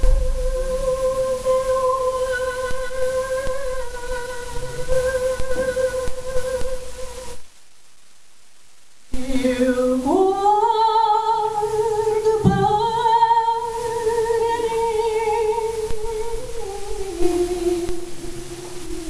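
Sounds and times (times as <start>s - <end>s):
woman singing unaccompanied: 0.0s - 7.4s, 9.1s - 19.0s.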